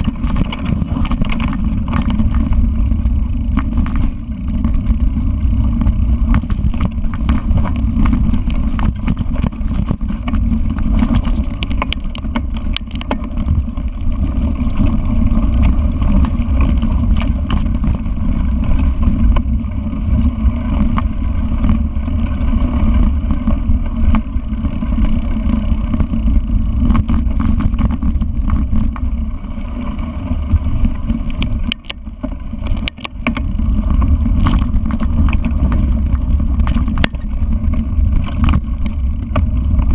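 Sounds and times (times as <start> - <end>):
bike rattling over dirt trail: 0.0 - 39.9.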